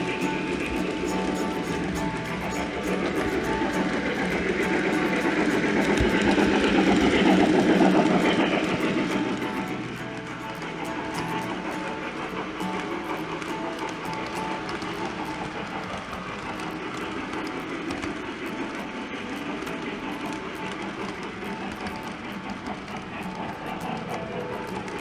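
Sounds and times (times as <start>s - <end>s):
model train rumbling on track: 0.0s - 25.0s
wheels clicking over rail joints: 0.0s - 25.0s.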